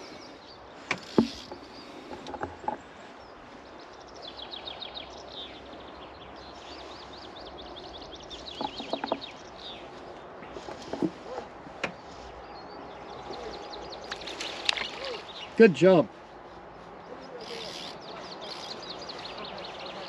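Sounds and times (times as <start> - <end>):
songbird chirping: 0.0 - 20.0.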